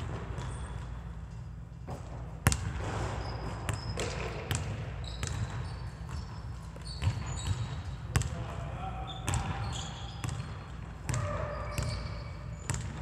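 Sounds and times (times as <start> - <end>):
basketball bouncing on gym floor: 0.0 - 13.0
sneakers squeaking on floor: 0.0 - 13.0.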